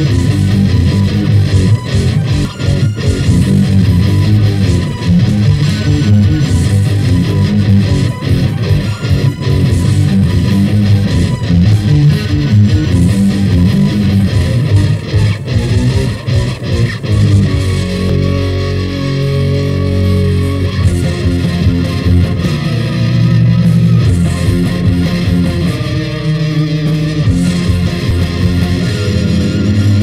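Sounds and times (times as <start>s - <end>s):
bass guitar: 0.0s - 30.0s
electric guitar: 0.0s - 30.0s.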